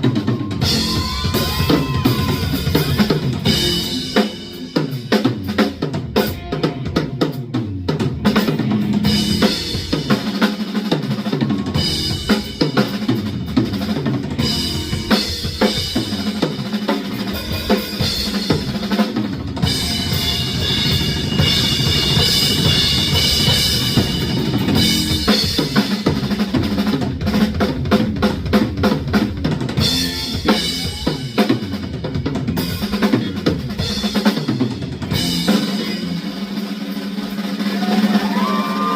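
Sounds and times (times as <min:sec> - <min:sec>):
drum kit: 0:00.0 - 0:38.9
live band playing: 0:00.0 - 0:38.9.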